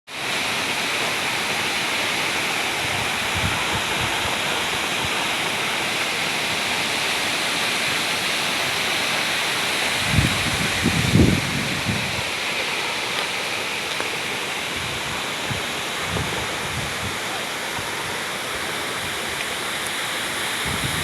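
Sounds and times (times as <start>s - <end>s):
waterfall rushing: 0.1s - 21.0s.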